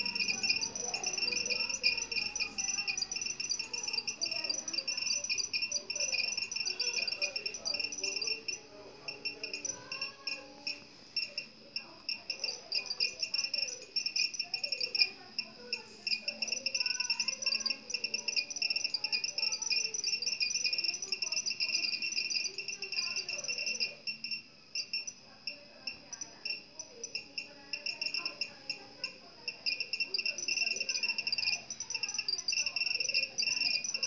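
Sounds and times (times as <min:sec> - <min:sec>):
crickets chirping: 0:00.0 - 0:34.0
faint distant voices or music: 0:00.0 - 0:34.0.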